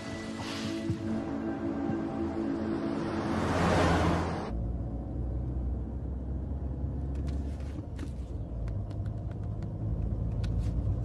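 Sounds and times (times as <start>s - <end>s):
road rumble inside van: 0.0s - 11.0s.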